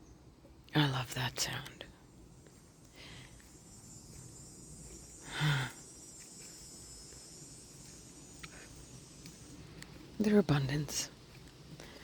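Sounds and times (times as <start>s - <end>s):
cicadas singing: 0.0s - 12.0s.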